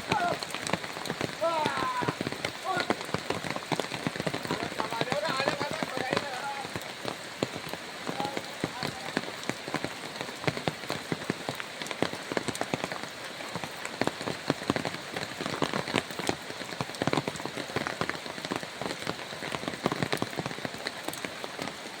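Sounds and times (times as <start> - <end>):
rain on a hard surface: 0.0 - 22.0.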